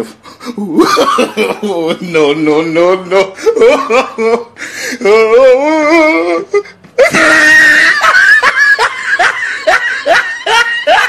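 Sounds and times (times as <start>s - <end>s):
person laughing hard: 0.4s - 2.3s, 3.0s - 11.0s.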